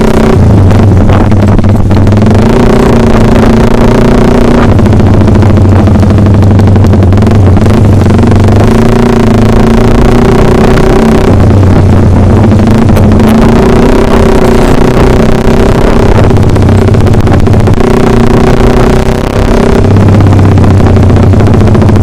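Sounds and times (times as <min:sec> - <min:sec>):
motorcycle engine running loud: 0:00.0 - 0:22.0.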